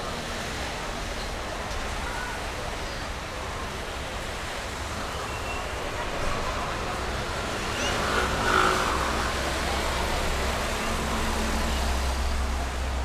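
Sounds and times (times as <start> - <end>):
faint crowd chatter: 0.0 - 13.0
outdoor noise wash: 0.0 - 13.0.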